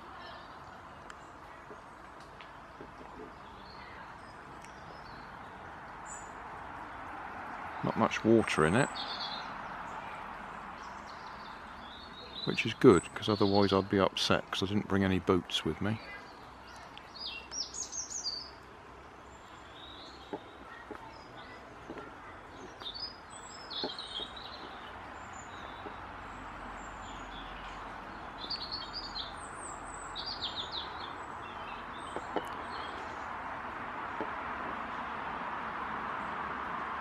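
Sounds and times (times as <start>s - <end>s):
songbirds chirping: 0.0s - 37.0s
traffic rushing: 0.0s - 37.0s.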